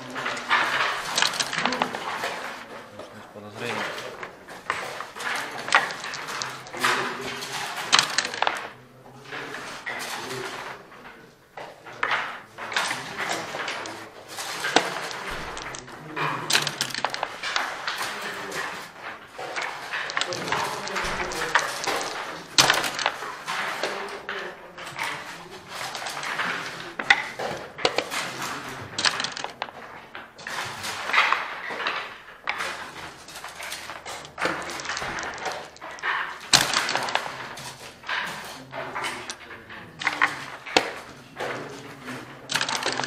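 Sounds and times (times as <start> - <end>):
dice landing: 0.0 - 2.7, 3.6 - 8.8, 12.0 - 43.0
checkers clacking onto board: 0.0 - 43.0.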